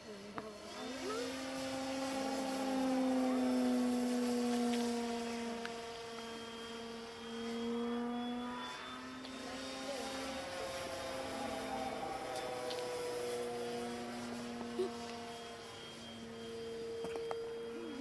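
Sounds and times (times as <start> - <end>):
model airplane motor drone: 0.0 - 18.0.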